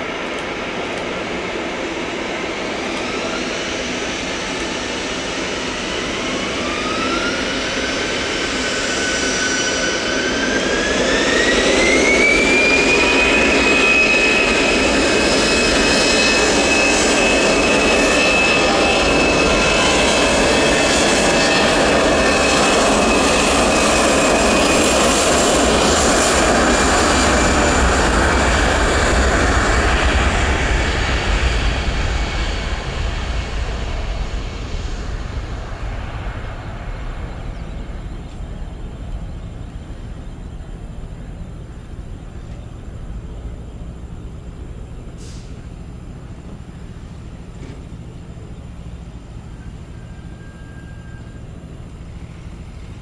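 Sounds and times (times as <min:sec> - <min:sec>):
jet engine roar: 0:00.0 - 0:53.0
jet engine whine: 0:00.0 - 0:53.0.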